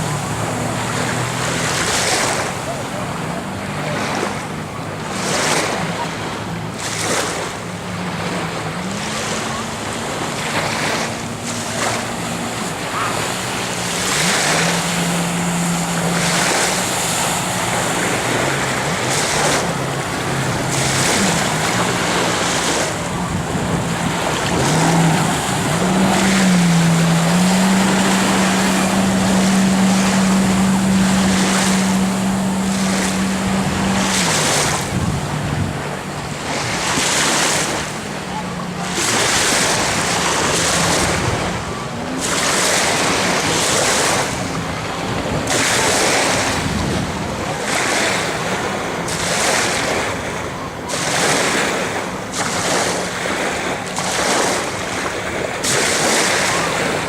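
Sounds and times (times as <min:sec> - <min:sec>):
jet ski engine running: 0:00.0 - 0:57.0
rushing water: 0:00.0 - 0:57.0
wind gusts on microphone: 0:04.0 - 0:57.0.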